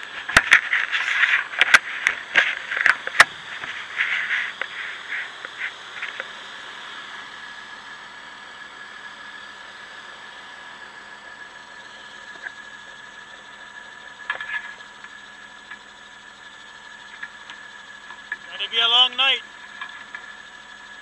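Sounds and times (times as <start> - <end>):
snow groomer engine running: 0.0 - 21.0
thin high whine: 0.0 - 21.0.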